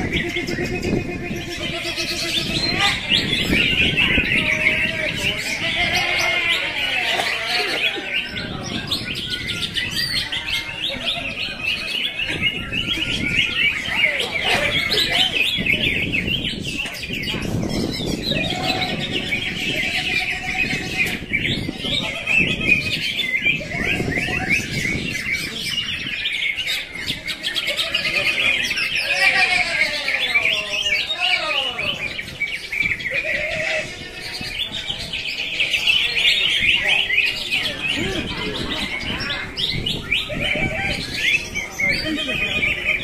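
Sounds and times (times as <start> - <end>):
birds chirping and whistling: 0.0 - 43.0.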